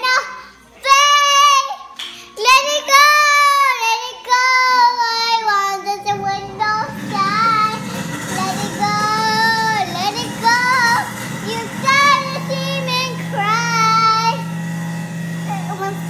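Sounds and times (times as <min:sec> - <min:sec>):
girl singing high notes: 0:00.0 - 0:14.5.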